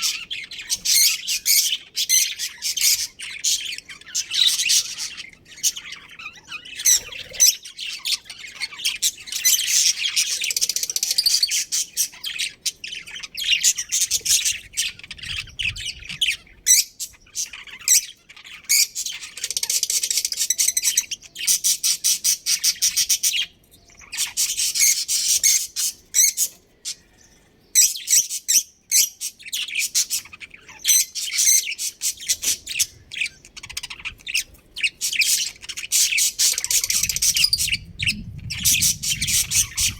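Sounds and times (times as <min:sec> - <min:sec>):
budgerigars chirping and chattering: 0:00.0 - 0:27.1, 0:27.8 - 0:39.9.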